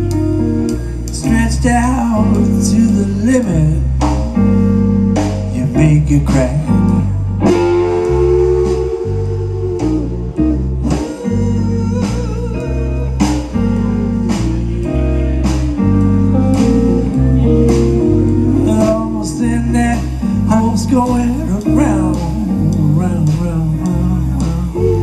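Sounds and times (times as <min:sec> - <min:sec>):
bass guitar: 0:00.0 - 0:25.0
drum kit: 0:00.0 - 0:25.0
electric guitar lead: 0:00.0 - 0:25.0.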